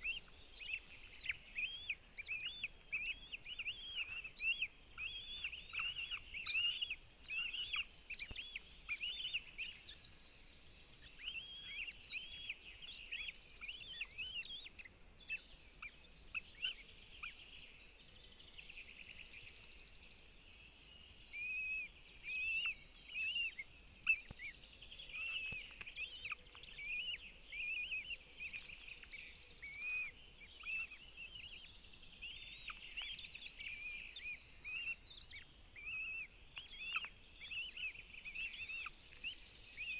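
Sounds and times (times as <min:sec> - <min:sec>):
birds calling: 0:00.0 - 0:39.9
faint outdoor hiss: 0:00.0 - 0:39.9.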